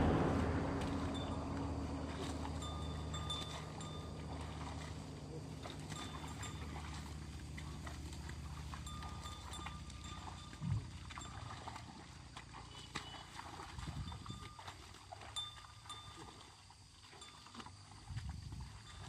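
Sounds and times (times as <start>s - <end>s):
plough working in soft mud: 0.0s - 19.0s.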